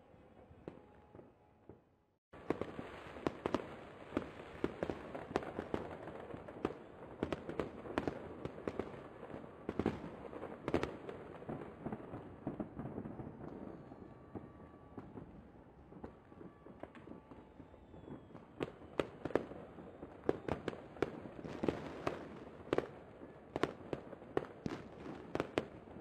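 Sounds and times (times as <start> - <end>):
fireworks bursting: 2.4 - 26.0.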